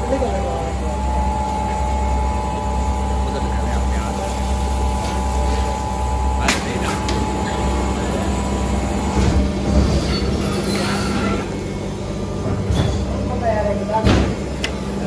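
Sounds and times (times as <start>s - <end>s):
machine humming with faint whine: 0.0s - 15.0s.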